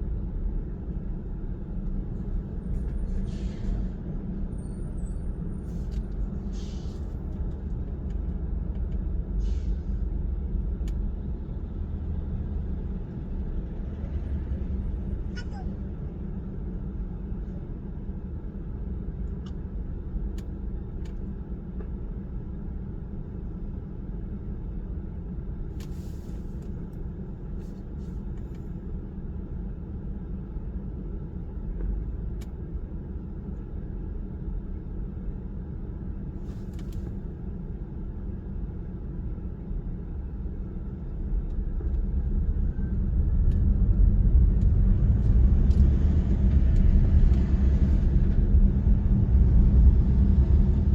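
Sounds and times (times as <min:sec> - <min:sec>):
car tyres and engine rumble: 0:00.0 - 0:50.9.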